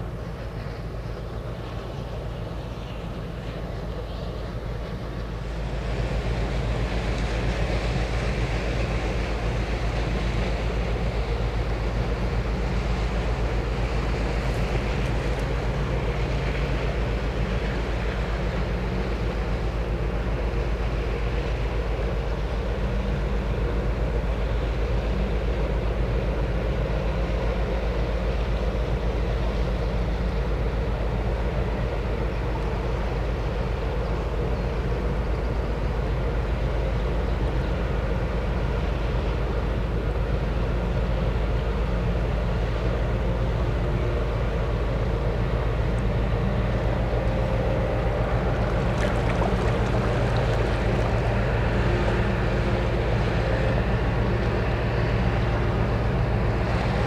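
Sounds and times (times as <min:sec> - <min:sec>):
ship engine droning: 0:00.0 - 0:57.0.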